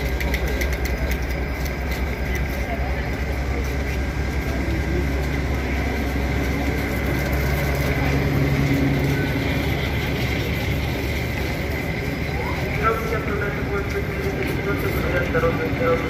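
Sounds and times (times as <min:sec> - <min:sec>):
constant hum: 0:00.0 - 0:16.0
train cars rolling past: 0:00.0 - 0:16.0.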